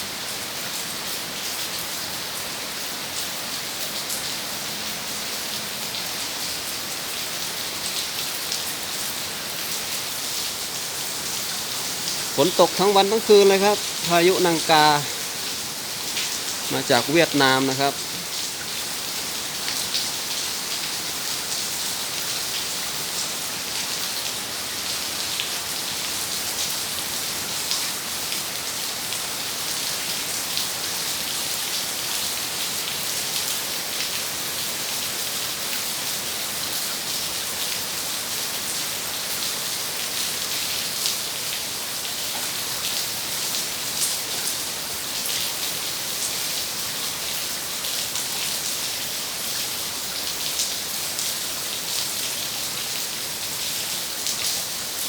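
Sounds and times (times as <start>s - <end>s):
heavy rain spattering on surfaces: 0.0s - 55.0s.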